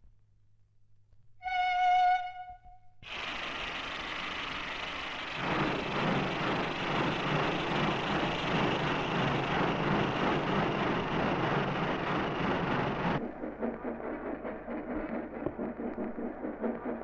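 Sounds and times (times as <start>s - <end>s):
steam locomotive letting off steam: 3.0s - 17.0s.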